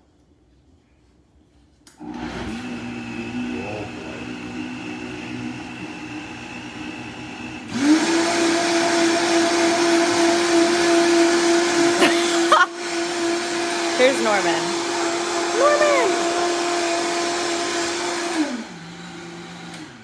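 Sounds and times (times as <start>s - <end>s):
blender running: 2.0s - 20.0s.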